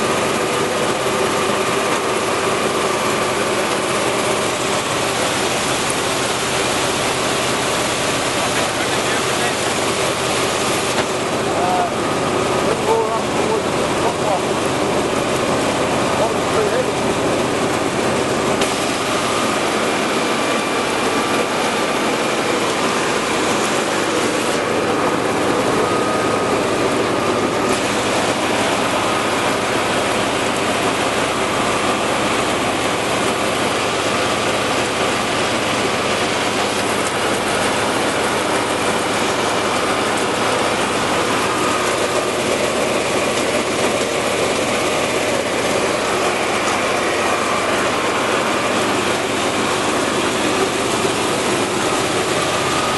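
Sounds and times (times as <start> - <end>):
grain cleaner machine running: 0.0 - 52.9.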